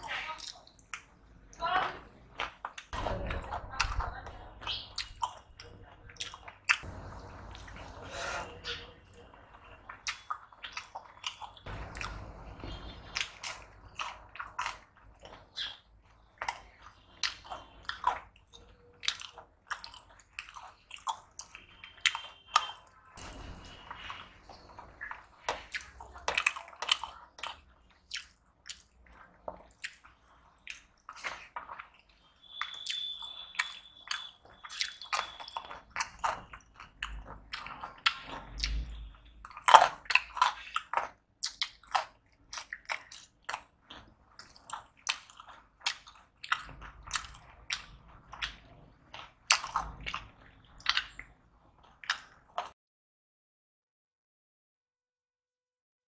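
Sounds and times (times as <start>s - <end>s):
person chewing and lip-smacking: 0.0s - 1.2s, 2.4s - 7.8s, 8.6s - 52.7s.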